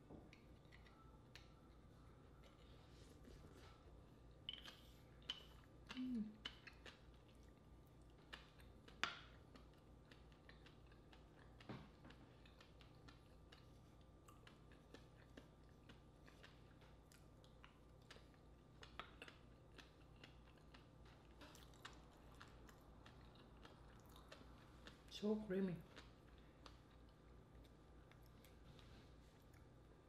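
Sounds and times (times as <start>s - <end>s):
mouth chewing with wet clicks: 0.3s - 2.8s, 4.2s - 25.2s, 25.8s - 30.0s.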